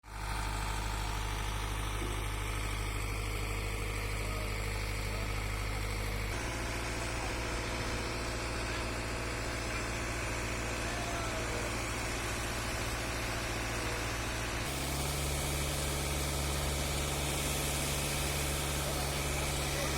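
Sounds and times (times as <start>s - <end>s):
construction machinery engine idling: 0.0s - 19.9s.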